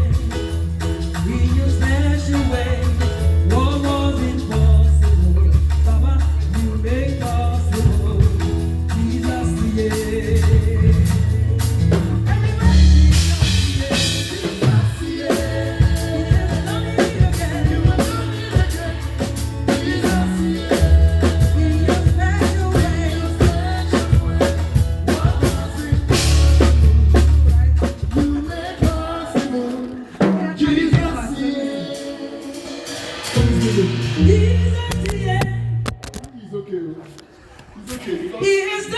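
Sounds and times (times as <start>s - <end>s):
low bass notes: 0.0s - 28.4s, 33.4s - 36.4s
drum kit beat: 0.0s - 36.4s
church band playing gospel song: 0.0s - 38.9s.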